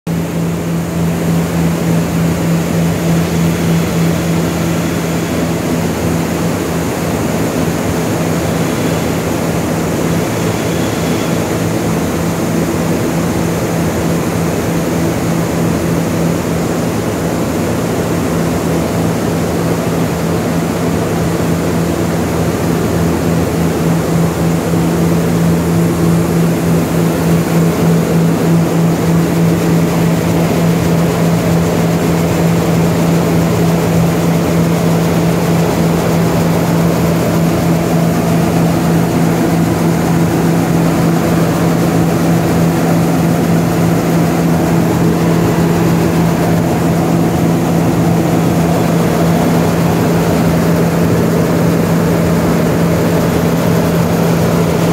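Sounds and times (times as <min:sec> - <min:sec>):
machinery roar with low hum: 0:00.1 - 0:54.9.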